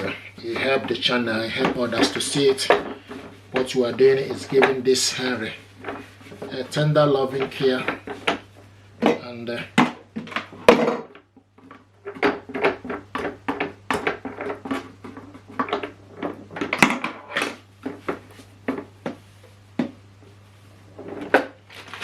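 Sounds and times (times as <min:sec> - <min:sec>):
hand rubbing plastic: 0:00.0 - 0:22.0.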